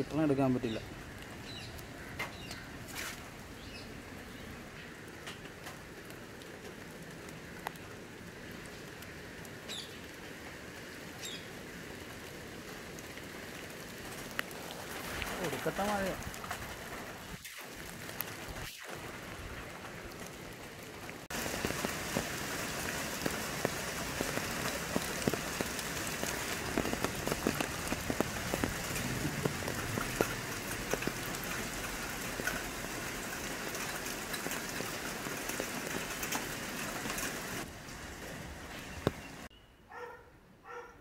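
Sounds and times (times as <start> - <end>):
steady rain falling: 0.0 - 39.5.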